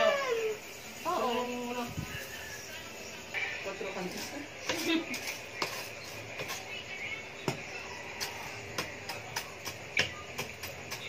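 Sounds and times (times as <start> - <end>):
charcoal crackling in a stove: 0.0 - 11.0.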